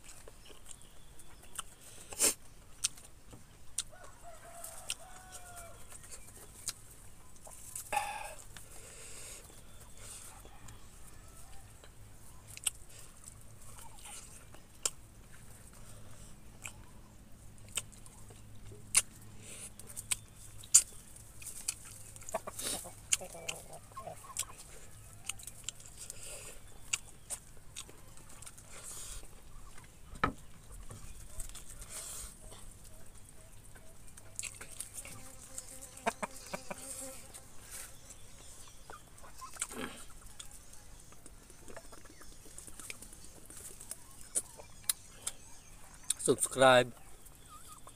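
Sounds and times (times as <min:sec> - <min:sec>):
clicks and smacks of eating: 0:00.0 - 0:08.7, 0:11.5 - 0:15.8, 0:16.5 - 0:36.2, 0:38.6 - 0:46.3
chickens clucking: 0:00.0 - 0:47.9.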